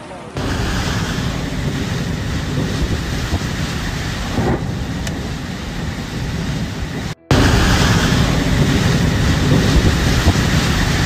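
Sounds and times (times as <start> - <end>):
rain: 0.0 - 11.0
wind buffeting microphone: 0.4 - 11.0.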